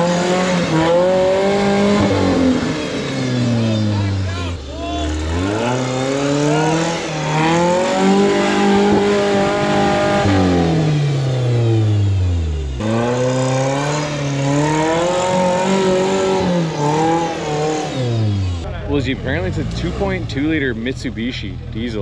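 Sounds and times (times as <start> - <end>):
engine revving hard: 0.0 - 22.0.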